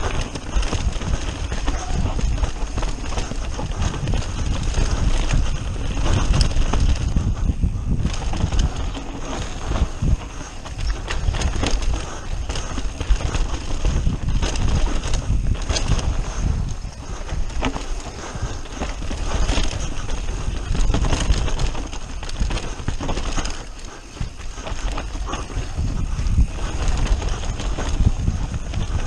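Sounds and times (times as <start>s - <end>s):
bike knocking and rattling: 0.0s - 29.0s
bike tyres rolling over dirt: 0.0s - 29.0s.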